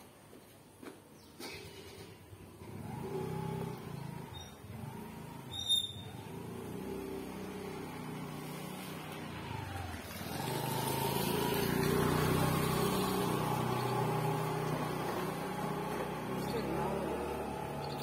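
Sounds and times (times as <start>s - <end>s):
vehicle engine running: 2.6s - 18.0s.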